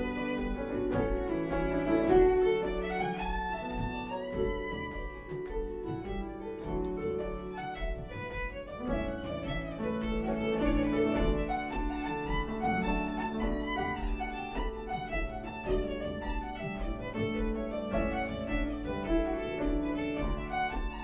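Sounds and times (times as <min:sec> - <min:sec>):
bodhran beat: 0:00.0 - 0:21.0
fiddle melody: 0:00.0 - 0:21.0
harp: 0:00.0 - 0:21.0
piano accompaniment: 0:00.0 - 0:21.0.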